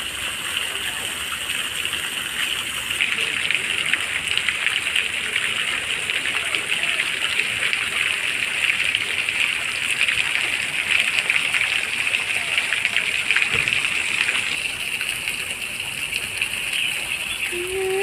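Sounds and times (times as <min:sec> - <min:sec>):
water splashing into pond: 0:00.0 - 0:18.0.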